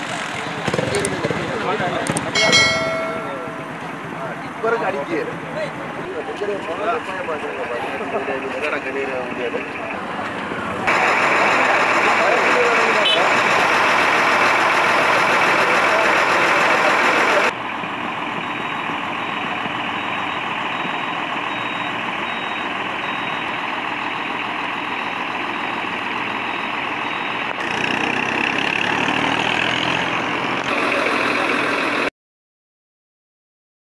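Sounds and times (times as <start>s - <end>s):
road traffic: 0.0s - 32.1s.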